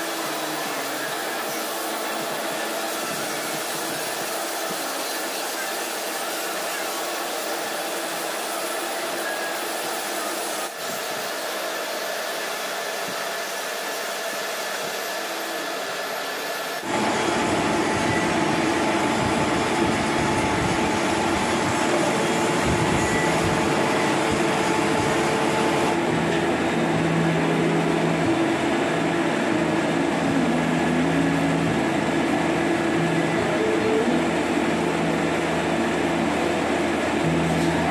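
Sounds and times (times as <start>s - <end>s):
lathe whirring: 0.0s - 37.9s.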